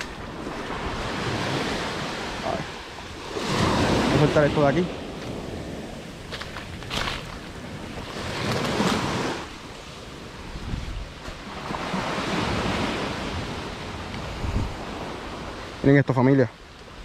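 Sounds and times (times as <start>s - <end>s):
wind on microphone: 0.0s - 15.8s
small waves washing onto sand: 0.0s - 17.0s.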